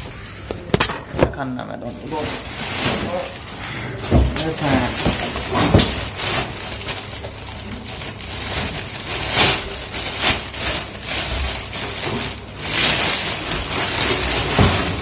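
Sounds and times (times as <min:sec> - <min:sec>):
plastic bag crinkling: 0:01.6 - 0:15.0.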